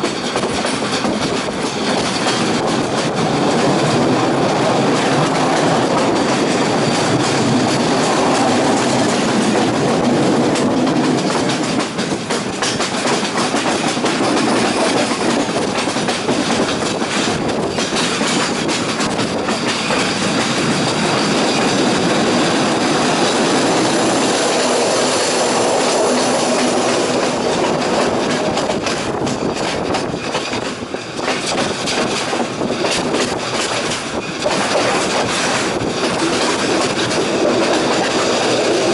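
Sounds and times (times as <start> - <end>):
train wheels rumbling on rails: 0.0 - 38.9
wheels clacking over rail joints: 0.0 - 38.9.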